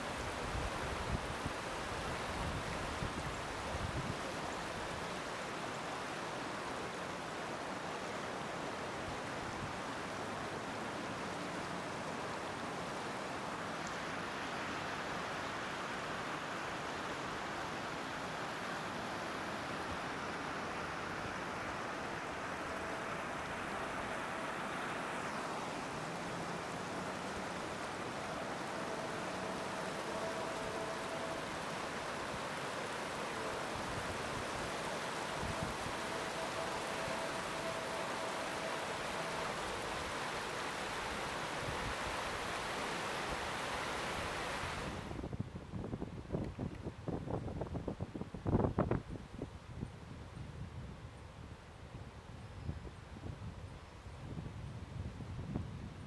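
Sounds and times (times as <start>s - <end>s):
river water rushing: 0.0s - 45.3s.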